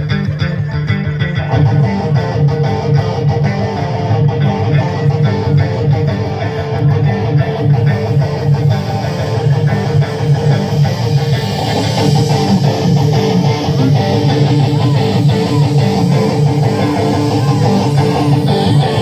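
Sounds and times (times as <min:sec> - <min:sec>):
bass guitar: 0:00.0 - 0:19.0
electric guitars: 0:00.0 - 0:19.0.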